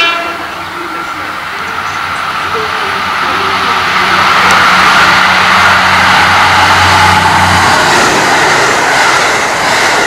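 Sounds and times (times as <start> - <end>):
diesel engine drone: 0.0 - 10.0
train wheels and air rushing: 0.9 - 10.0.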